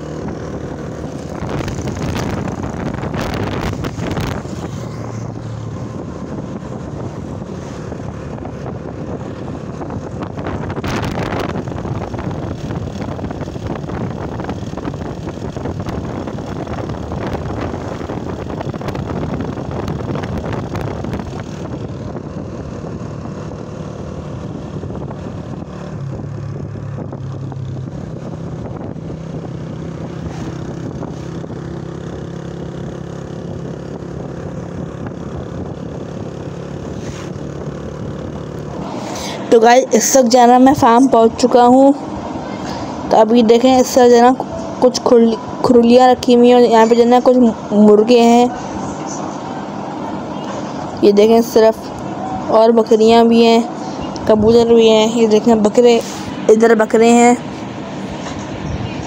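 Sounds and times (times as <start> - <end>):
vehicle engine running: 0.0 - 59.0
wind rush on microphone: 0.0 - 59.0.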